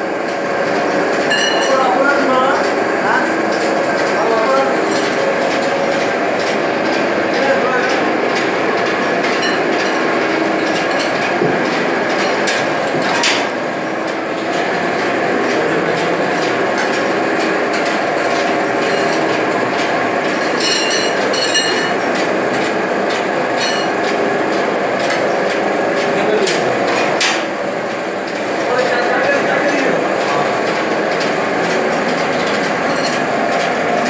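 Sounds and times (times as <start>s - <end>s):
machine mechanical clatter: 0.2s - 34.0s.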